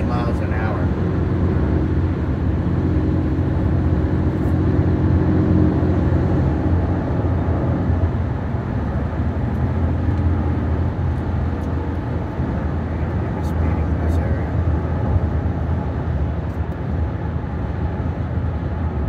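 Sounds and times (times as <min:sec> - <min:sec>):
car road and engine drone: 0:00.0 - 0:19.0.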